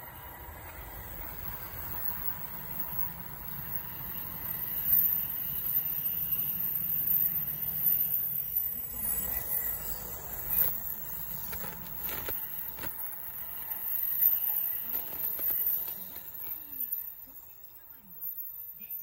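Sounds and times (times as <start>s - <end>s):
high-speed train passing: 0.0s - 18.4s.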